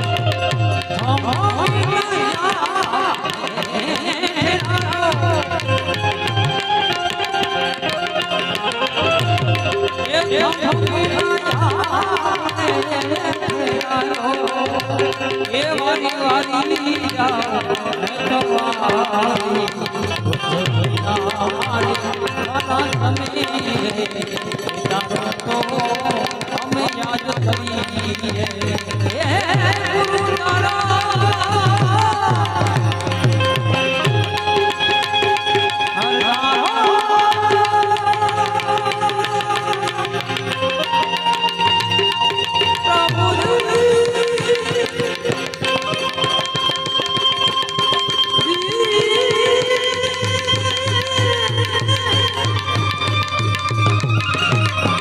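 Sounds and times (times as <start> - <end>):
tabla playing a steady rhythm: 0.0 - 55.0.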